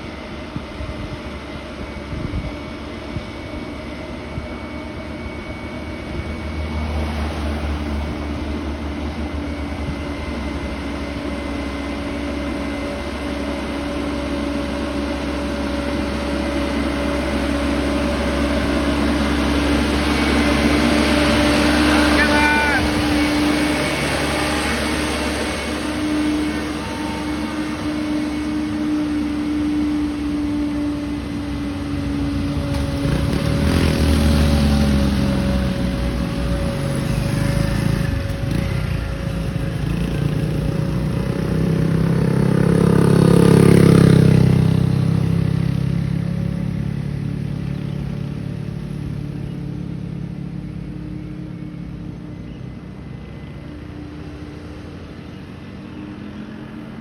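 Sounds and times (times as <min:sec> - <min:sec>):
truck diesel engine pulling uphill: 0:00.0 - 0:57.0.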